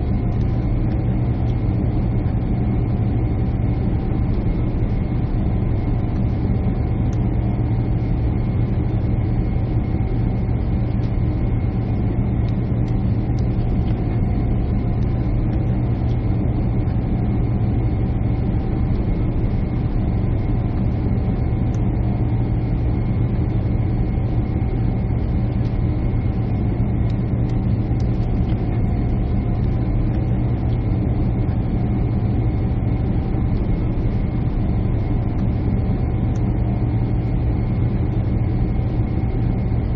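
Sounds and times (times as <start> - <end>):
faint steady whine: 0.0 - 39.9
jet engine and airflow drone: 0.0 - 39.9.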